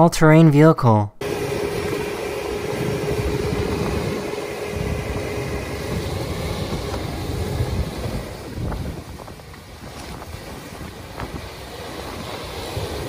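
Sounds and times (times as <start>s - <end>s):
vehicle diesel engine rumble: 1.2s - 13.0s.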